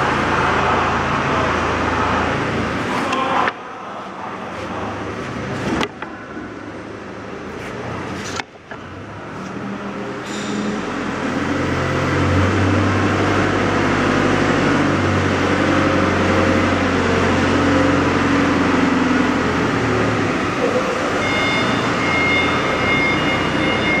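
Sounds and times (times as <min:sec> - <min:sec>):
high steady whine tones: 0:00.0 - 0:24.0.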